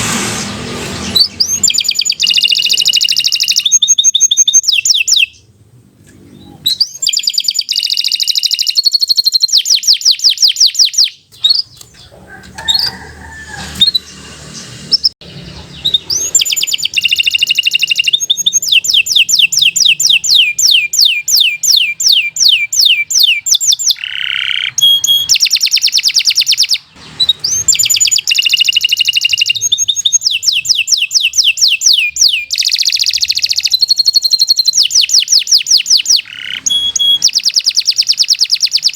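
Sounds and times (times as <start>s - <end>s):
canary singing trills: 0.7s - 5.5s, 6.2s - 38.9s.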